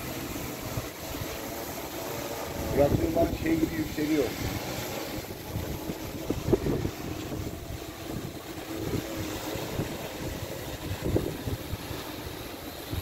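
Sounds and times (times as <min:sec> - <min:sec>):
drone propellers humming: 0:00.0 - 0:13.0
wind buffeting microphone: 0:00.0 - 0:13.0.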